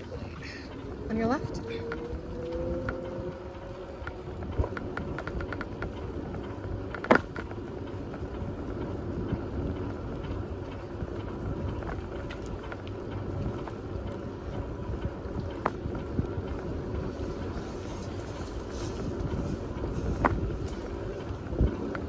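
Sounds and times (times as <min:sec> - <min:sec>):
bicycle tyre rumble: 0:00.0 - 0:22.0
wind on microphone: 0:00.0 - 0:22.0
small rattling clicks: 0:00.7 - 0:22.0.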